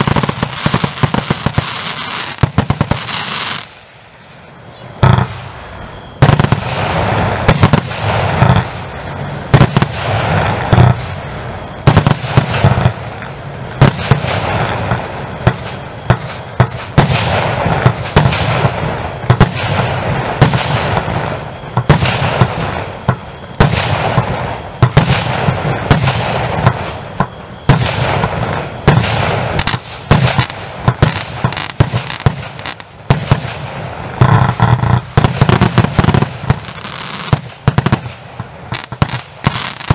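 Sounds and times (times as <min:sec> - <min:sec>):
fireworks bangs: 0:00.0 - 0:04.0, 0:04.9 - 0:39.9
dense rush of noise: 0:00.0 - 0:36.8.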